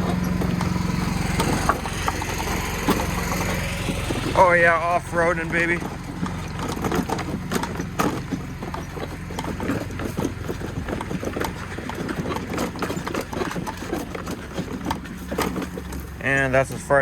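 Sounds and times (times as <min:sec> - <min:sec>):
small vehicle engine running: 0:00.0 - 0:17.0
wheels crunching over rough ground: 0:00.0 - 0:17.0.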